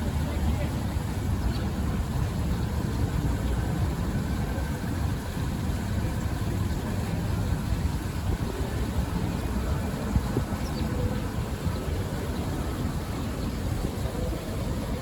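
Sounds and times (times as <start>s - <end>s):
low rumble of city noise: 0.0s - 15.0s.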